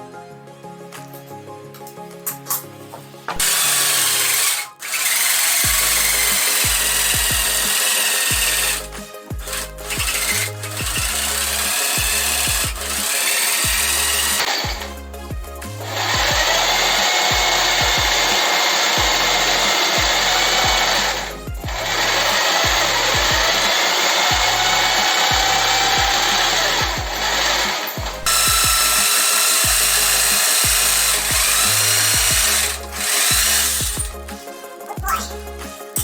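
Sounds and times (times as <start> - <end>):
electric power tool motor whine: 3.3 - 15.0, 15.8 - 34.2
background music with bass beat: 5.6 - 36.0.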